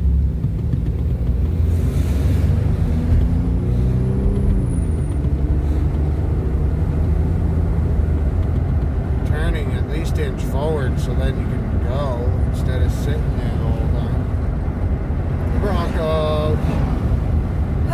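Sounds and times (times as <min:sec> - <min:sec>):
car engine from inside cabin: 0:00.0 - 0:17.9
road rumble: 0:00.0 - 0:17.9.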